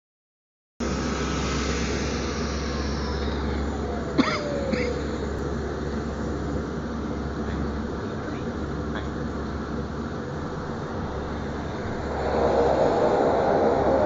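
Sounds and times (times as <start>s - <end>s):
airliner engine drone: 0.8s - 14.0s.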